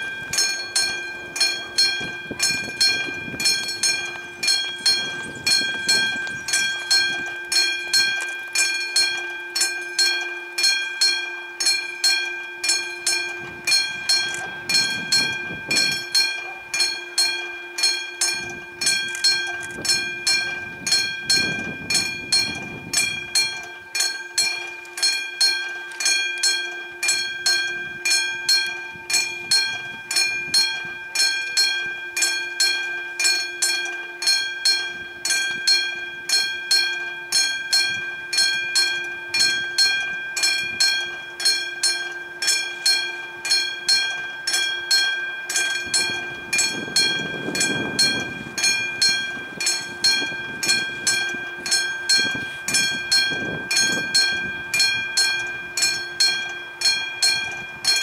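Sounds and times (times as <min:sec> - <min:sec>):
level crossing bell ringing: 0:00.0 - 0:58.0.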